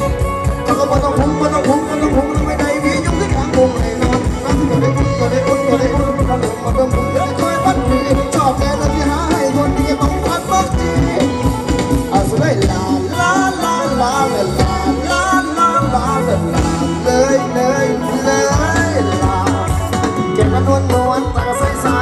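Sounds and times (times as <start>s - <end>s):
live band playing dance music: 0.0s - 22.0s.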